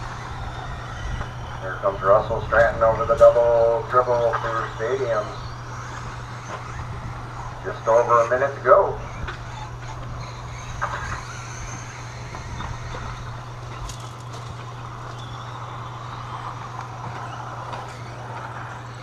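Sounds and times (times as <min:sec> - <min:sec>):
constant low hum: 0:00.0 - 0:19.0
toy truck motors whining: 0:00.0 - 0:19.0.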